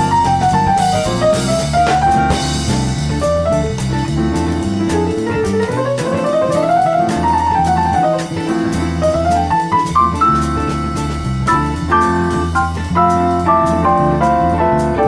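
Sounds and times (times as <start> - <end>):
jazzy piano tune with bass and drums: 0.0 - 15.0.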